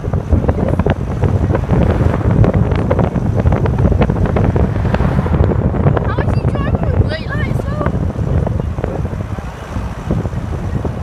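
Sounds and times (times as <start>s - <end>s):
car road noise: 0.0s - 11.0s
wind buffeting microphone: 0.0s - 11.0s.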